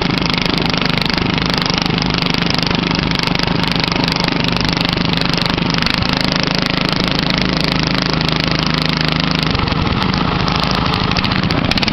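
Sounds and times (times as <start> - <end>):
lawn mower engine running: 0.0 - 11.9.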